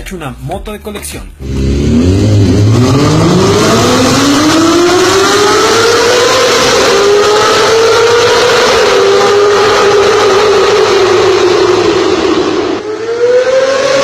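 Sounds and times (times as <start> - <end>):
motorcycle engine revving: 1.4 - 14.0.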